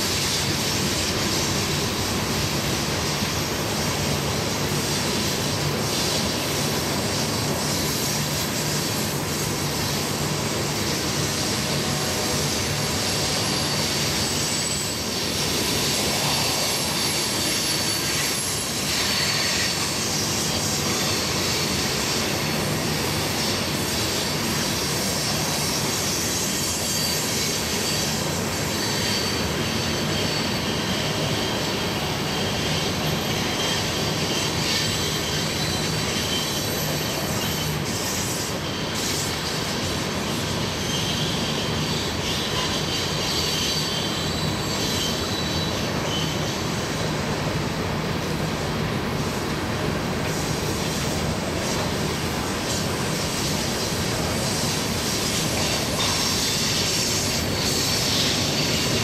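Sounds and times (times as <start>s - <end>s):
wheel flange squeal: 0.0s - 47.2s, 50.2s - 59.0s
train wheels rumbling on rails: 0.0s - 59.0s.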